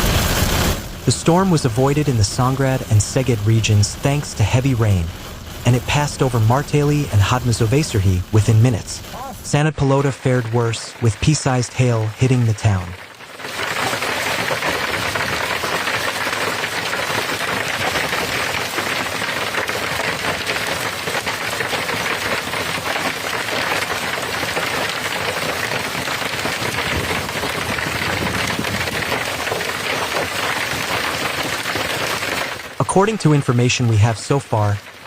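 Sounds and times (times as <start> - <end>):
hail and rain pelting: 0.0 - 35.0.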